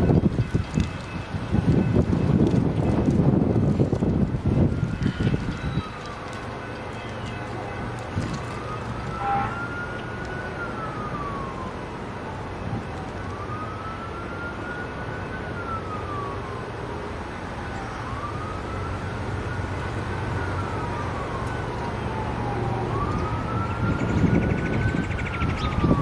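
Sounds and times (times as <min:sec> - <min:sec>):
emergency siren wailing: 0:00.0 - 0:26.0.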